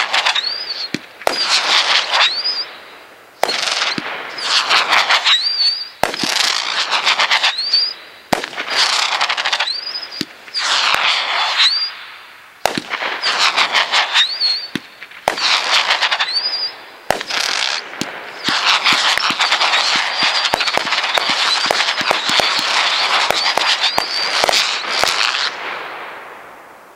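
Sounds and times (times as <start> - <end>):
firework launch reports: 0.0 - 26.8
crackling firework bursts: 0.0 - 26.9
firework whistles: 0.0 - 26.9.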